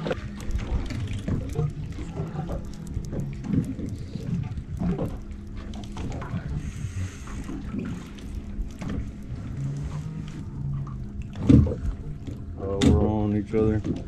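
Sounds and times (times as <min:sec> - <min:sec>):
steady low hum: 0:00.0 - 0:14.0
water lapping against boat hull: 0:00.0 - 0:14.0.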